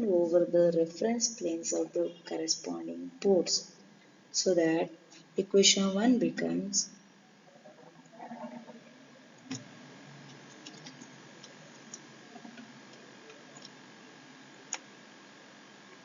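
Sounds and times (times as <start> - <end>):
faint steady whine: 0.0 - 16.0
room hiss: 0.0 - 16.0.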